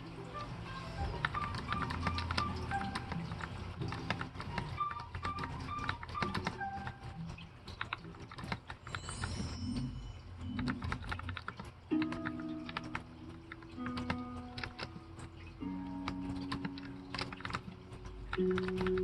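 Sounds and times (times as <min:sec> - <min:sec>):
mechanical keyboard typing: 0:01.0 - 0:09.3, 0:10.4 - 0:19.0.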